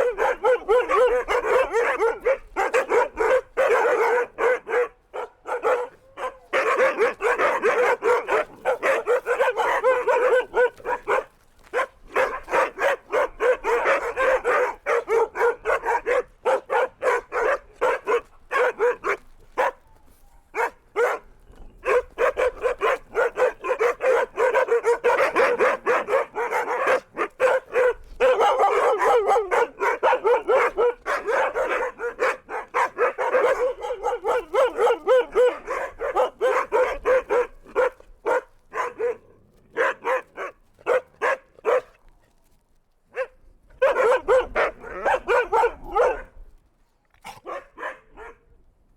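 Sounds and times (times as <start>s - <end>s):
dogs barking: 0.0s - 42.0s, 43.1s - 46.4s, 47.2s - 48.4s.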